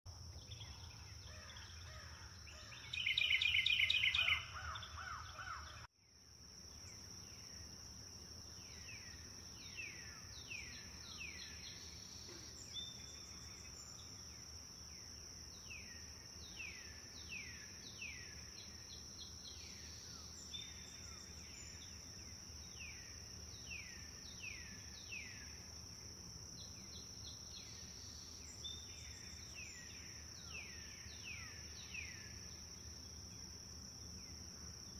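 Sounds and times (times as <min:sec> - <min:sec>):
high insect drone: 0:00.3 - 0:34.9.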